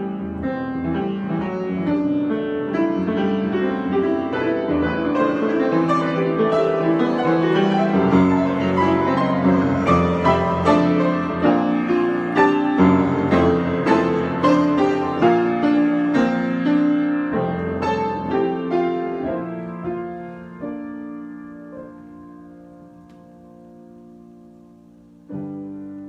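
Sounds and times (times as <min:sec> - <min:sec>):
solo piano: 0:00.0 - 0:26.0.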